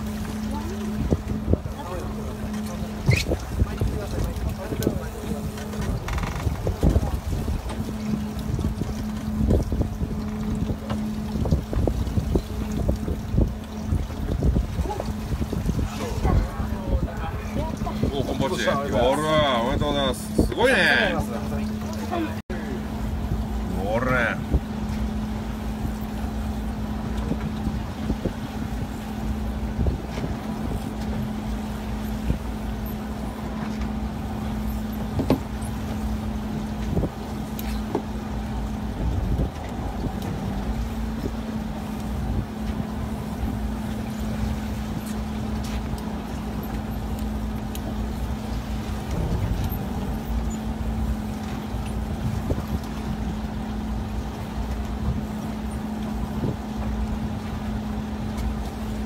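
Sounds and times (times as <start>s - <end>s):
boat engine humming: 0.0s - 59.0s
wind and water rumble: 0.0s - 59.0s.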